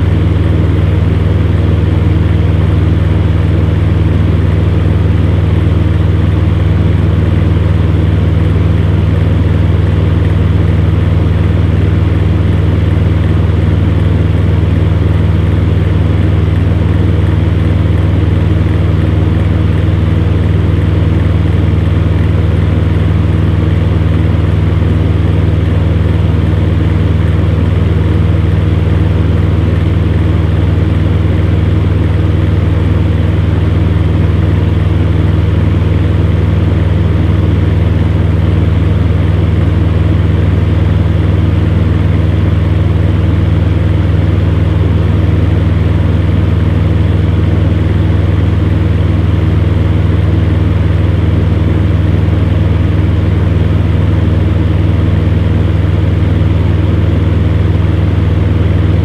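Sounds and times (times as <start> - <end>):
electric fan humming: 0.0 - 59.0.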